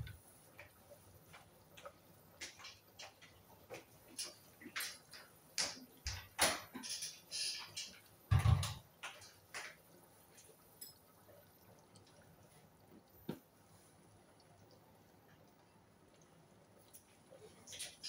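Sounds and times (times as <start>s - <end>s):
curry bubbling in a pot: 0.0s - 18.0s.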